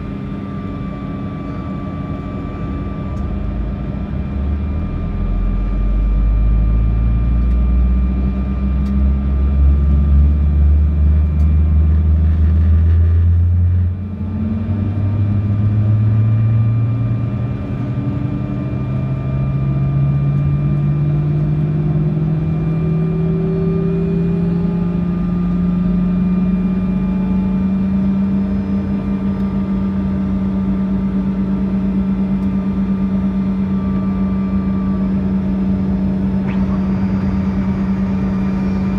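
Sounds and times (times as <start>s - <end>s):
jet engine whine spooling up: 0.0s - 38.9s
steady low drone: 0.0s - 38.9s.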